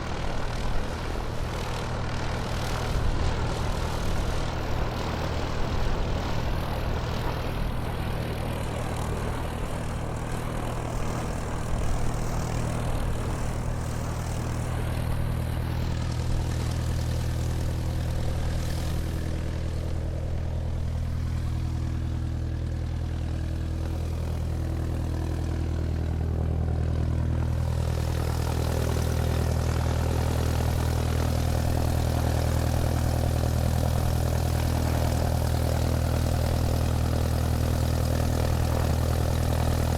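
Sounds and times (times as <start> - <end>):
airplane engines droning: 0.0 - 39.9.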